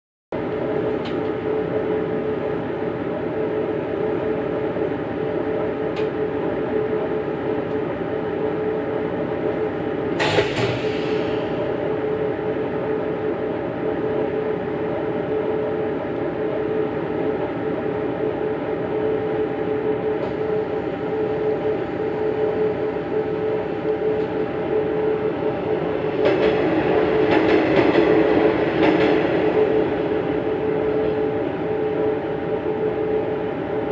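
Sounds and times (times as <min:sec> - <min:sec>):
diesel railcar passing: 0:00.4 - 0:20.1, 0:20.7 - 0:33.9
diesel railcar idling: 0:00.4 - 0:33.9.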